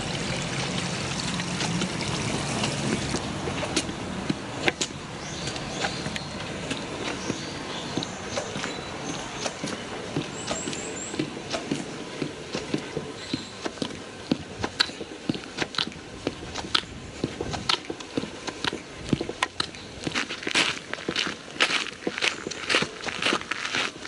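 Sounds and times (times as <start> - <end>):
footsteps on a path: 1.4 - 24.0.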